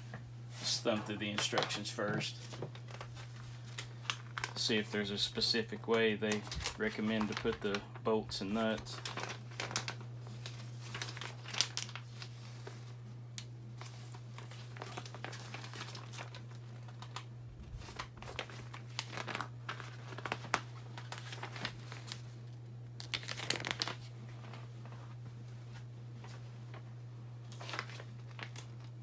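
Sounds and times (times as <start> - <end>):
paper rustling: 0.0 - 13.0, 13.8 - 22.4, 23.0 - 26.8, 27.4 - 29.0
steady low hum: 0.0 - 29.0.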